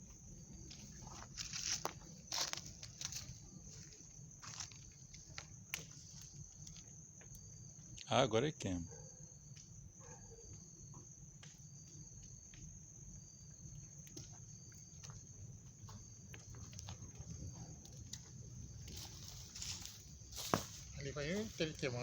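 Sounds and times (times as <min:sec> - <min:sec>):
bonfire crackling and popping: 0:00.0 - 0:08.1, 0:09.3 - 0:22.0
crickets chirping: 0:00.0 - 0:22.0.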